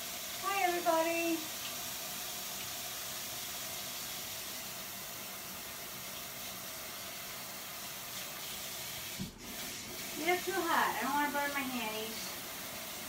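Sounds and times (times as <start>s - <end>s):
faucet running water: 0.0s - 13.0s.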